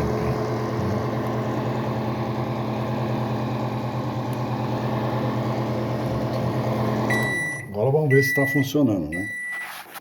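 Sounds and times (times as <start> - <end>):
microwave oven hum: 0.0 - 9.6.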